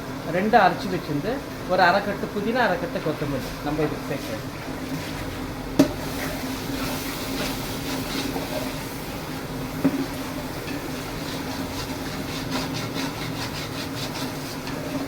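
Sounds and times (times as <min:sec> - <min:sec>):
food frying in a pot: 0:00.0 - 0:15.0
gas burner rumbling: 0:00.0 - 0:15.0.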